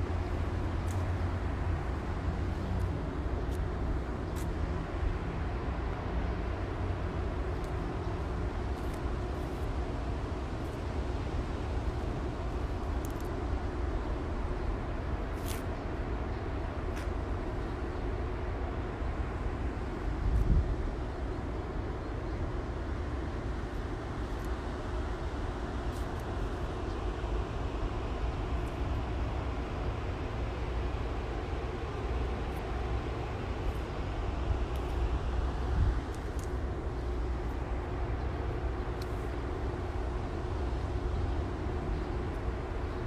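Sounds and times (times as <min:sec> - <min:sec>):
faint steady hum: 0:00.0 - 0:43.0
low outdoor rumble: 0:00.0 - 0:43.0.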